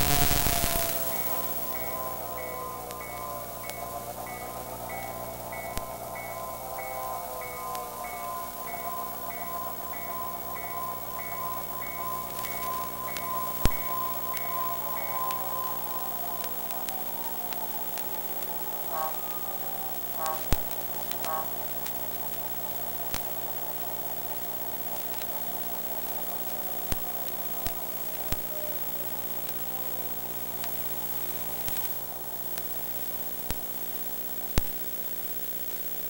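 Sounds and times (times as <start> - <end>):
electrical hum and hiss: 0.0 - 36.0
faint ringing tone: 0.0 - 36.0
sharp interference clicks: 0.0 - 36.0.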